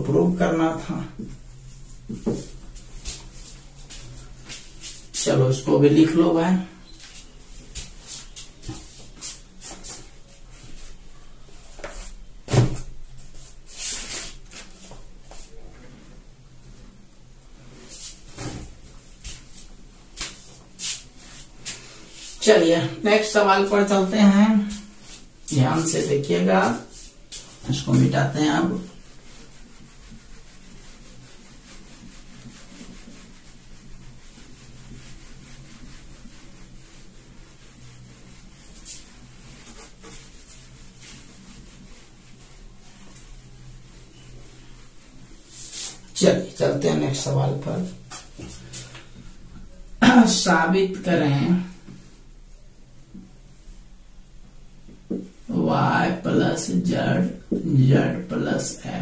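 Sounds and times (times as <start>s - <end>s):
palm rubbing whiteboard: 0.4s - 52.3s.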